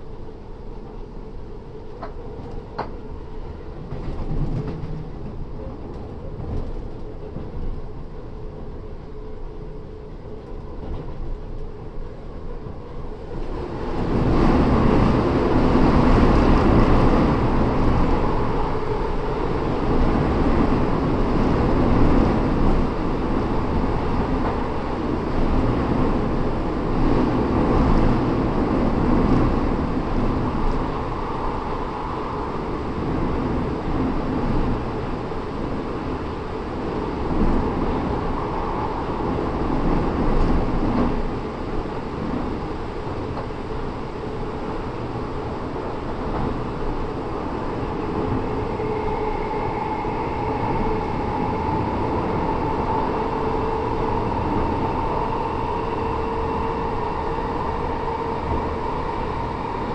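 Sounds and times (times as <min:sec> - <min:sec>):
electric train running at speed: 0:00.0 - 0:59.9.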